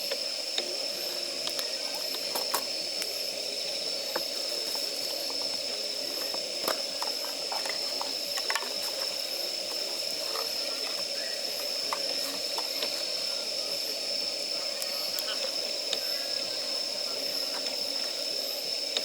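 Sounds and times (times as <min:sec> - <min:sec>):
damp firewood hissing and crackling: 0:00.0 - 0:19.0.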